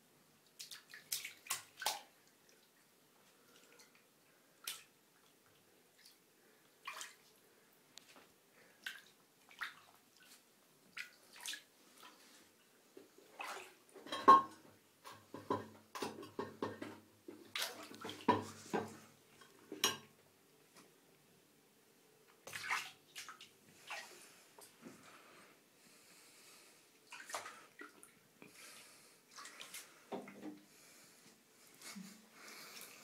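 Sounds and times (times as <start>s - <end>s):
water splashing in a bathtub: 0.3s - 20.2s, 22.3s - 25.2s, 26.9s - 31.0s.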